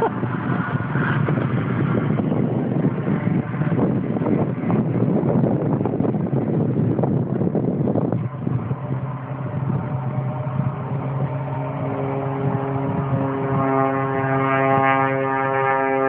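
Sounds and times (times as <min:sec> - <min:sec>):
propeller plane droning overhead: 0:00.0 - 0:16.0
wind gusts on microphone: 0:00.0 - 0:16.0.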